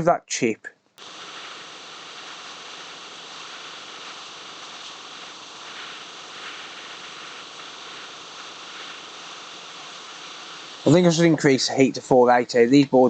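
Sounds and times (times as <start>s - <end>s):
hot air blower hissing: 1.0s - 12.0s.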